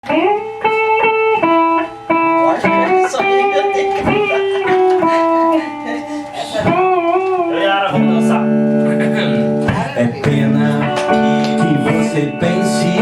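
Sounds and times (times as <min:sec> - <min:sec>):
guitar picking melody: 0:00.0 - 0:13.0.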